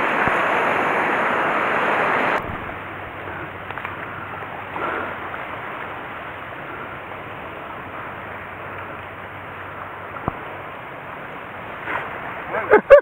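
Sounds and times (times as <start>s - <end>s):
water lapping: 0.0s - 13.0s
wind: 0.0s - 13.0s.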